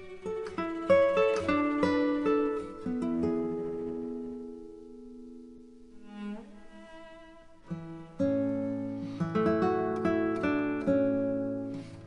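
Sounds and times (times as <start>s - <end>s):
plucked acoustic guitar: 0.0s - 6.5s, 7.6s - 12.0s.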